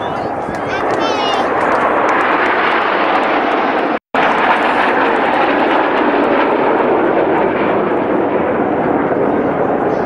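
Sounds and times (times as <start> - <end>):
jet engines roaring past: 0.0 - 10.0.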